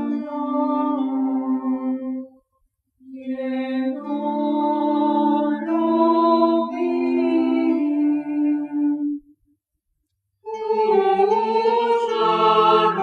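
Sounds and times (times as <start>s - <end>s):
slow music of held notes: 0.0s - 13.0s.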